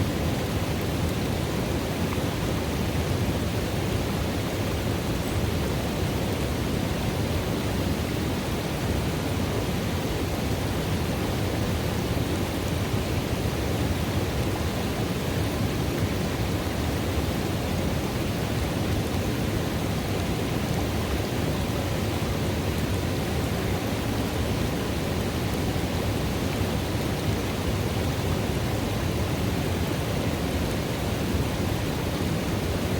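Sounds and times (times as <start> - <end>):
river water running into a pool: 0.0 - 32.9.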